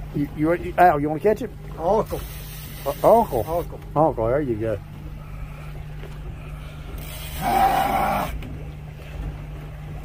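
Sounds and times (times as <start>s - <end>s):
boat engines humming: 0.0s - 10.0s.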